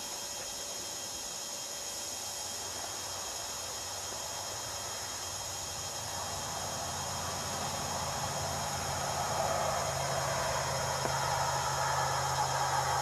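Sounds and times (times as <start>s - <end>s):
background hiss: 0.0s - 13.0s
insects chirring: 0.0s - 13.0s.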